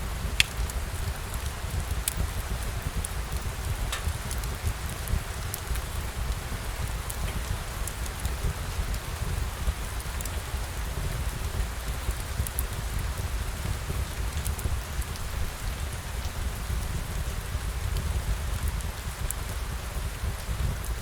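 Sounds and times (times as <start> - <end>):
light ticks of raindrops: 0.0 - 21.0
steady rain falling: 0.0 - 21.0.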